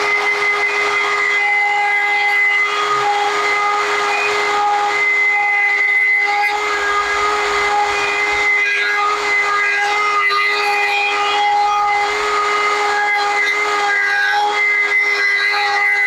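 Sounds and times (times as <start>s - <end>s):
rotary carving tool grinding wood: 0.0s - 16.0s.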